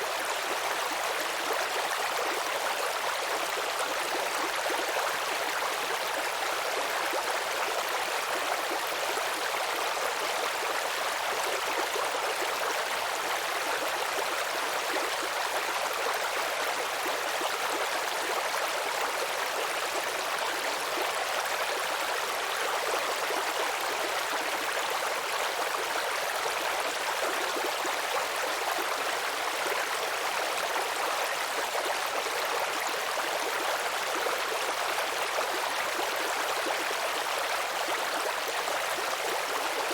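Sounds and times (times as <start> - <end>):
stream water trickling and gurgling: 0.0 - 39.9.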